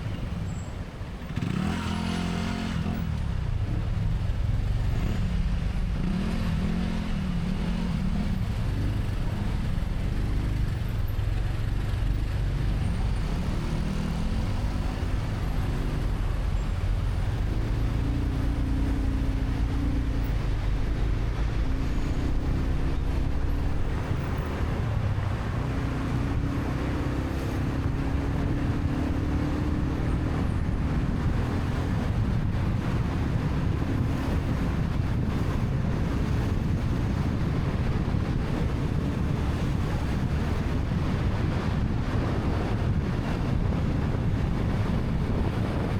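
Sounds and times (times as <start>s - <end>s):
traffic and road noise: 0.0s - 45.9s
motorcycle engine revving: 1.2s - 10.9s, 11.8s - 45.9s.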